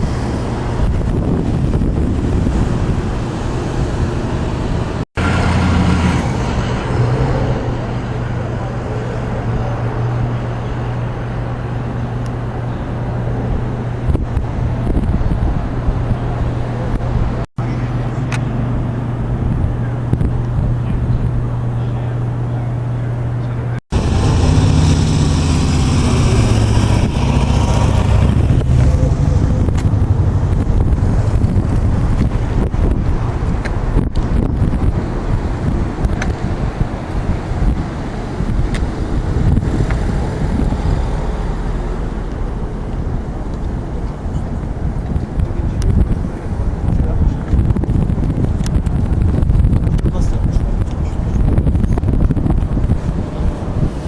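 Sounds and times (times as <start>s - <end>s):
traffic noise: 0.0s - 54.0s
vehicle engine humming: 0.0s - 54.0s
wind: 0.0s - 54.0s.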